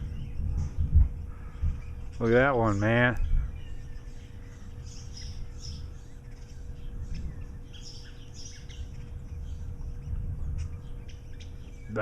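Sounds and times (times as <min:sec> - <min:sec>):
birds chirping: 0:00.0 - 0:12.0
faint steady hum: 0:00.0 - 0:12.0
low rumbling noise: 0:00.0 - 0:12.0.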